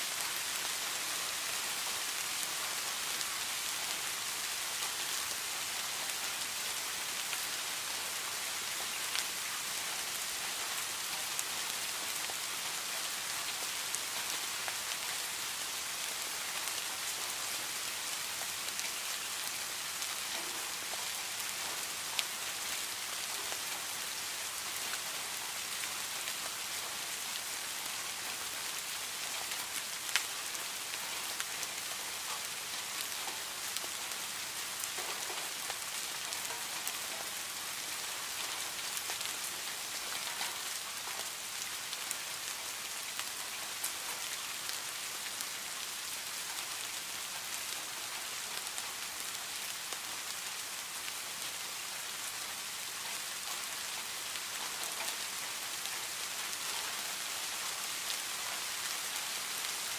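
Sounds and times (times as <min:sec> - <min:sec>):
heavy rain on leaves: 0:00.0 - 0:59.9.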